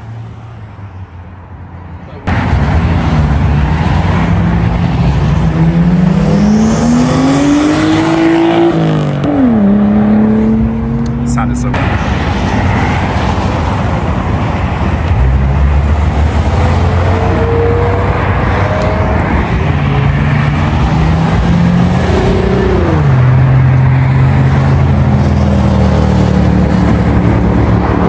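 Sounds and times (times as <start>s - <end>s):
other cars' engine noise: 0.0s - 28.0s.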